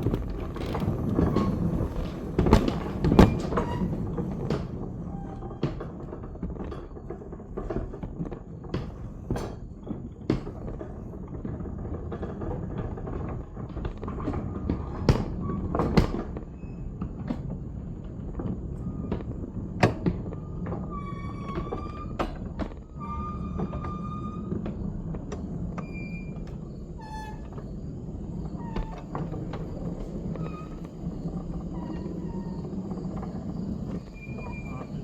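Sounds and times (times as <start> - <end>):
clicks and clanks of wheels: 0.0 - 35.0
small train rumbling on track: 0.0 - 35.0.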